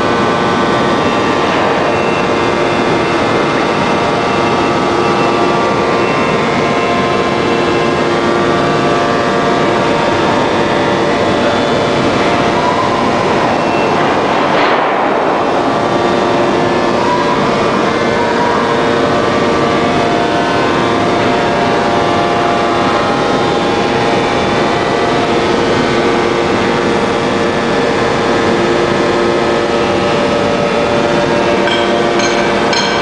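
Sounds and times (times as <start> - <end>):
hydraulic press machinery running: 0.0 - 33.0.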